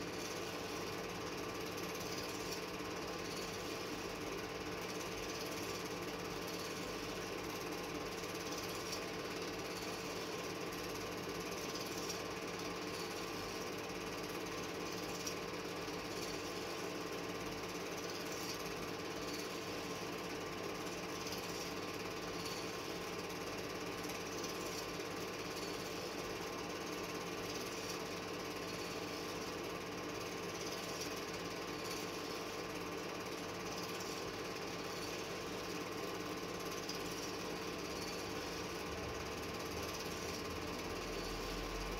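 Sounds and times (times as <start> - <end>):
film projector clattering: 0.0 - 41.8.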